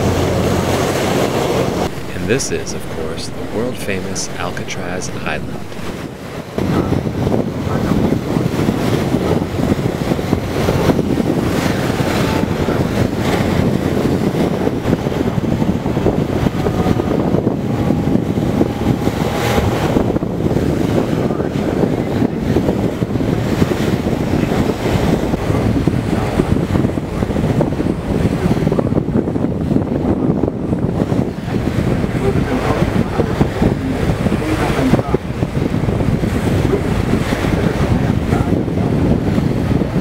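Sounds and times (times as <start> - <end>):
wind buffeting microphone: 5.9 - 40.0.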